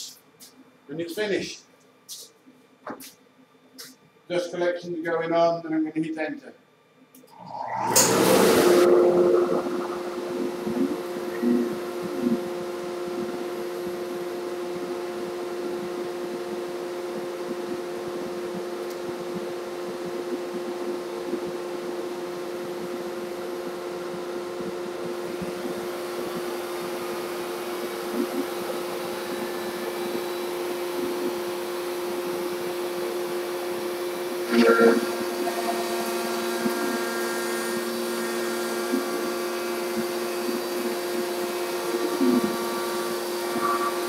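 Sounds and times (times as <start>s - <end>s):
dust collector humming: 7.3s - 44.0s.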